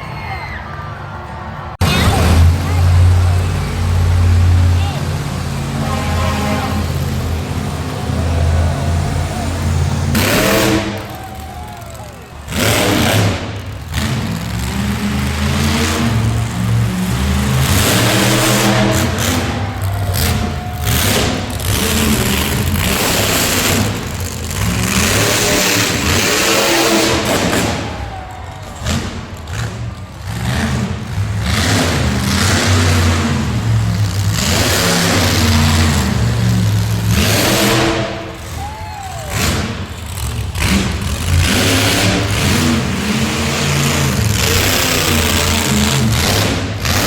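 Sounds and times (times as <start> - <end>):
racing engines revving hard: 1.8 - 47.0.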